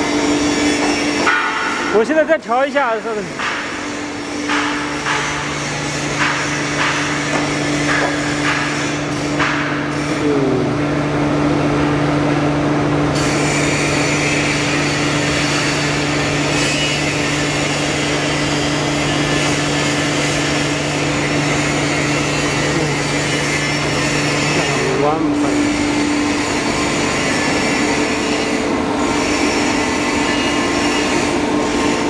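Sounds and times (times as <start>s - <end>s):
foam cutting machine humming: 0.0s - 32.0s.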